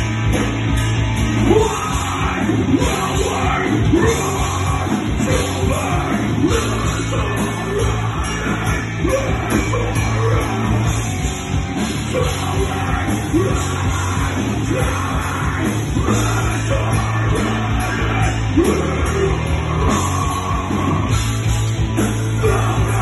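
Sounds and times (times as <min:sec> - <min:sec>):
drum kit: 0:00.0 - 0:23.0
electric guitars: 0:00.0 - 0:23.0.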